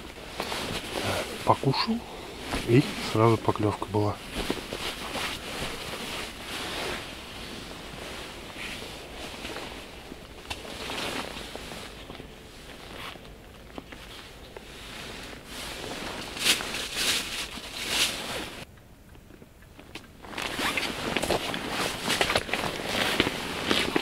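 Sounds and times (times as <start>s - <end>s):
rustling and scraping handling noise: 0.0s - 18.7s, 19.8s - 24.0s.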